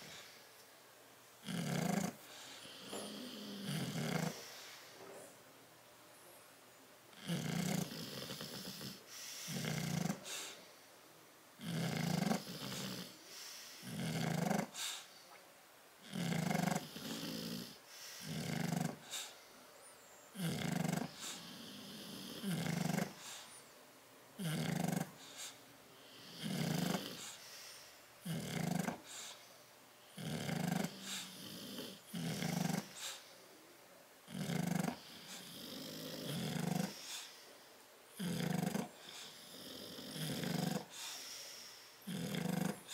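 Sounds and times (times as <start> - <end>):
dogs snoring: 0.0 - 0.4, 1.4 - 5.2, 7.1 - 10.7, 11.6 - 15.1, 16.0 - 19.5, 20.3 - 23.6, 24.4 - 33.3, 34.2 - 37.5, 38.1 - 42.9.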